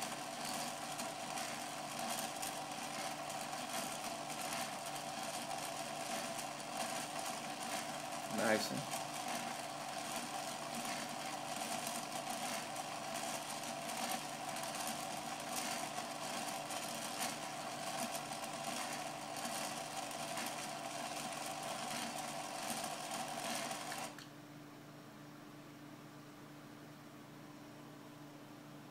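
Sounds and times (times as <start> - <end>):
electric motor whirring: 0.0 - 24.2.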